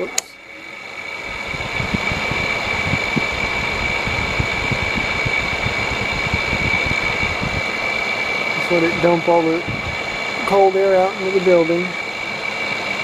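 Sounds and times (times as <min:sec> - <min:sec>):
air conditioner fan whining: 0:00.0 - 0:13.0.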